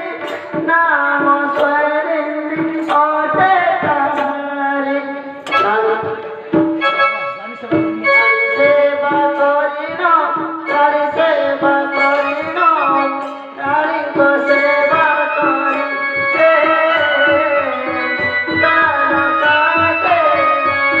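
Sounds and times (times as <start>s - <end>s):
held instrument notes: 0.0s - 21.0s
person singing: 0.0s - 21.0s.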